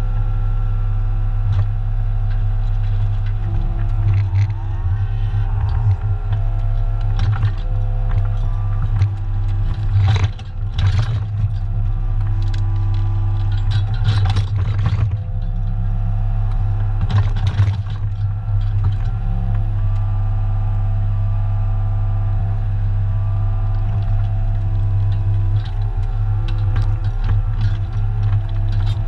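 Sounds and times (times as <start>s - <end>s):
diesel engine running: 0.0s - 29.0s
hydraulic whine: 0.0s - 29.0s.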